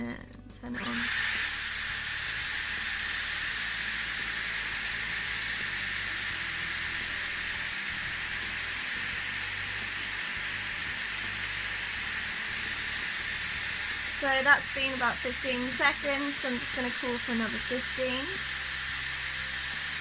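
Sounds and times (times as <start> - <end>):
hair styler blowing air: 0.8 - 20.0.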